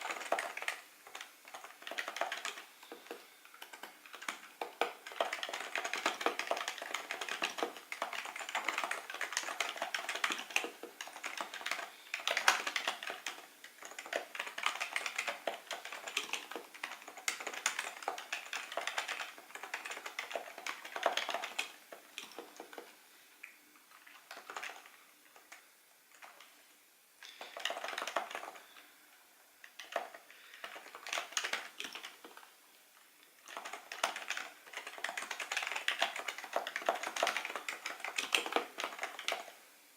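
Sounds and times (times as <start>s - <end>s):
soft keyboard typing clacks: 0.0s - 26.6s, 27.2s - 28.9s, 29.6s - 32.6s, 33.2s - 39.6s.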